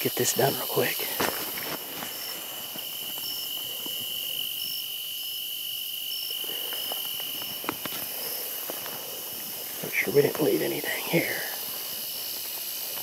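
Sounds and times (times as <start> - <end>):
higher insect chirp: 0.0 - 13.0
insects trilling: 0.0 - 13.0.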